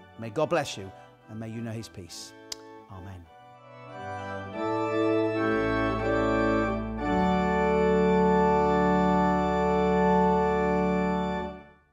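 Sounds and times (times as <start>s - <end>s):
church organ chords: 0.0s - 11.9s.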